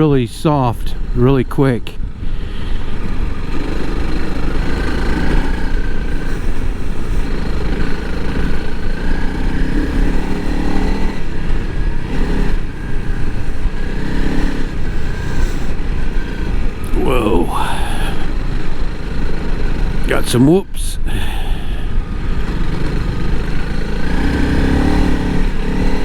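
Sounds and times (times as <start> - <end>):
motorcycle engine revving in sand: 0.0 - 26.0.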